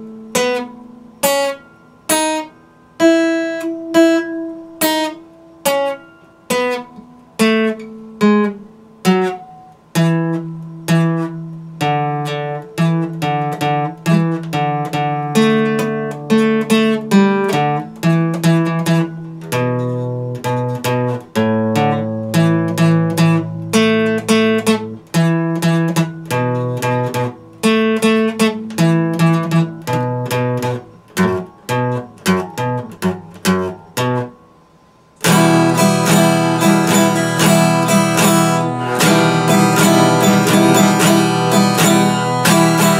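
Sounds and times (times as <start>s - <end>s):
fingerstyle acoustic guitar: 0.0s - 42.9s.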